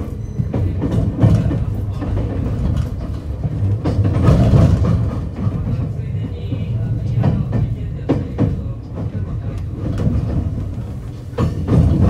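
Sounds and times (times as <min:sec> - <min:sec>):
train running rumble: 0:00.0 - 0:12.0
wheels clicking over rail joints: 0:00.0 - 0:12.0.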